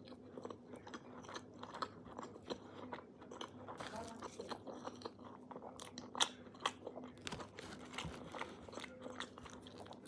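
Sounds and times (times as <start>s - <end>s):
crunching and chewing food: 0.0s - 10.0s.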